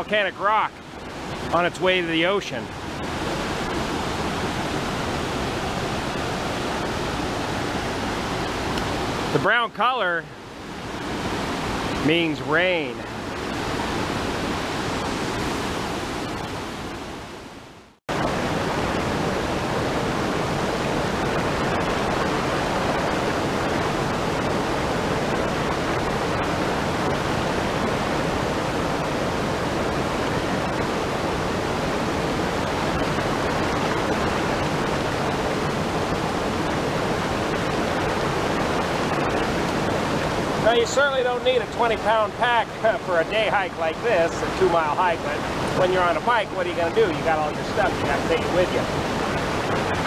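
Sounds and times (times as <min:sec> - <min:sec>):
rapids and small waterfall: 0:00.0 - 0:50.0.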